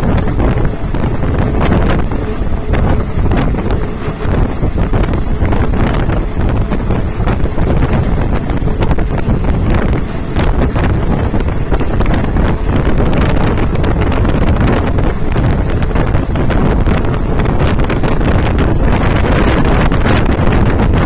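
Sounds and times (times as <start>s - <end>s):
train running rumble: 0.0s - 21.0s
wind buffeting microphone: 0.0s - 21.0s.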